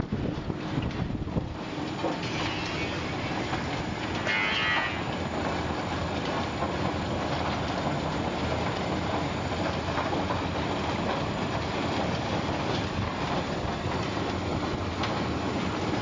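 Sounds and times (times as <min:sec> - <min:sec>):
machine rattling and rumbling: 0:00.0 - 0:16.0.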